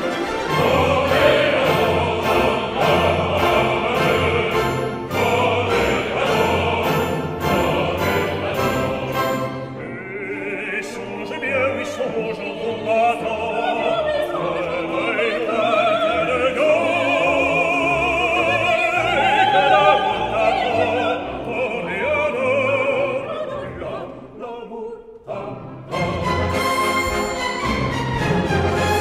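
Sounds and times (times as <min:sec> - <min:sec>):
operatic singing with orchestra: 0:00.0 - 0:29.0.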